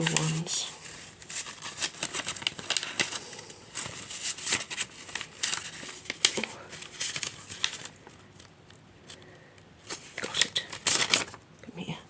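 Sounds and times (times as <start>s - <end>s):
paper crinkling and rustling: 0.0s - 11.4s.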